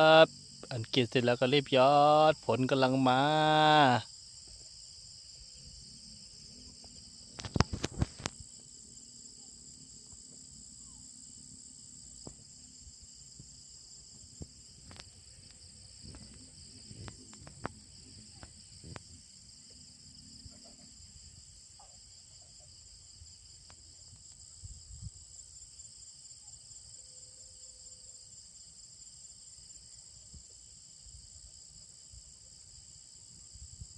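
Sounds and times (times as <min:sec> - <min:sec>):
insect chorus: 0:00.0 - 0:33.9.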